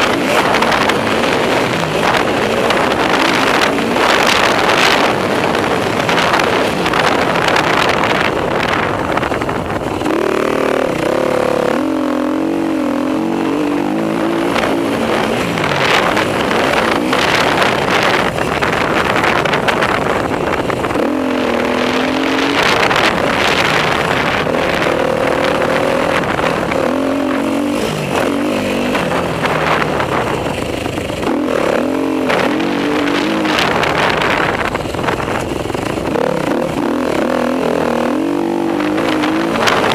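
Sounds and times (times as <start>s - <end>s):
dirt bike engine revving: 0.0s - 39.9s
loud rushing noise: 0.0s - 39.9s.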